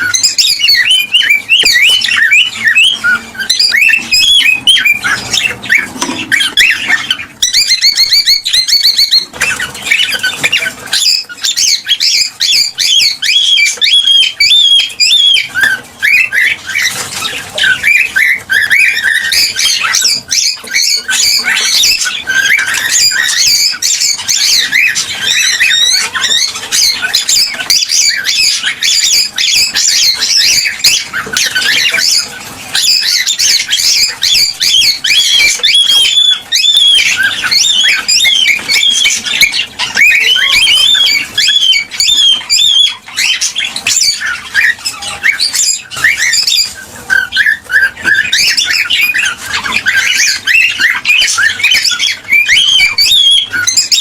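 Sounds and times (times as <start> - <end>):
cockatiels chirping and whistling: 0.0 - 54.0.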